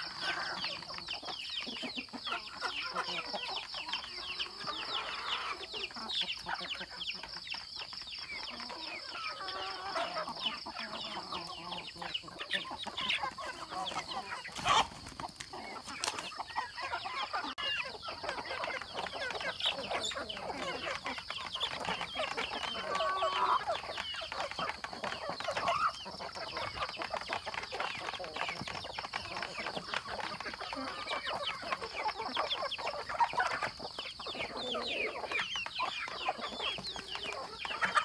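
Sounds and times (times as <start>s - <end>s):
chickens clucking and peeping: 0.0s - 38.0s.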